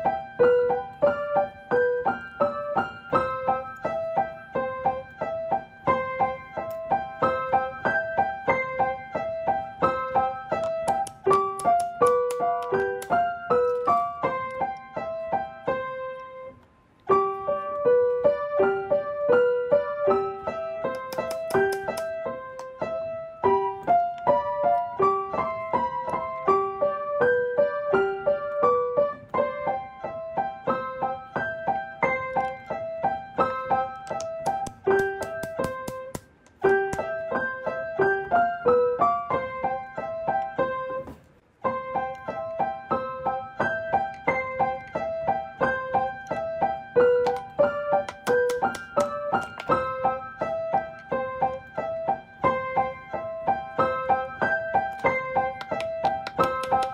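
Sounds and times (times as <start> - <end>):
piano melody: 0.0 - 56.9.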